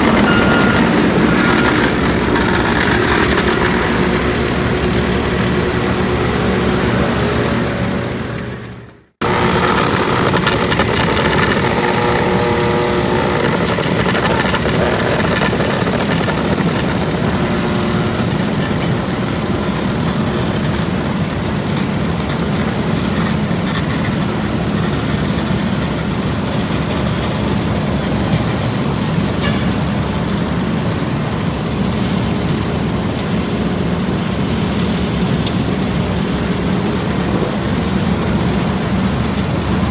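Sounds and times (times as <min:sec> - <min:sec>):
diesel machinery engines running: 0:00.0 - 0:39.9.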